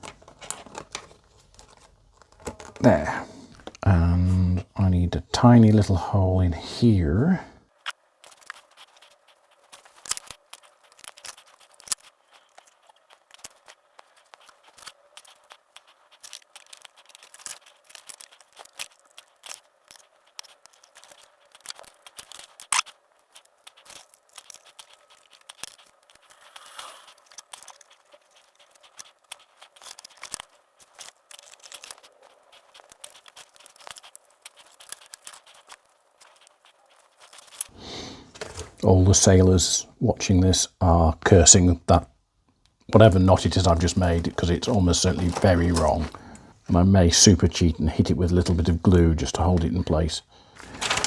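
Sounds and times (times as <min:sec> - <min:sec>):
hands handling plastic parts: 0:00.0 - 0:03.8, 0:07.8 - 0:39.3, 0:42.7 - 0:51.0.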